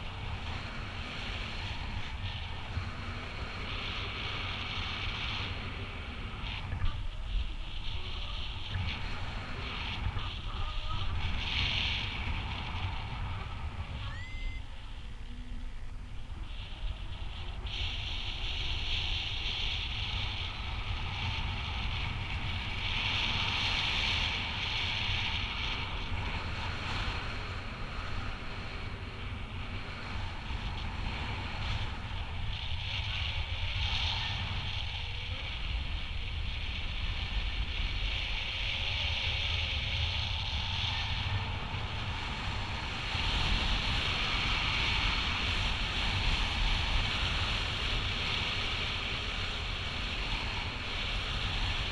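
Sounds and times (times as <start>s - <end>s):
low wind rumble: 0.0s - 51.9s.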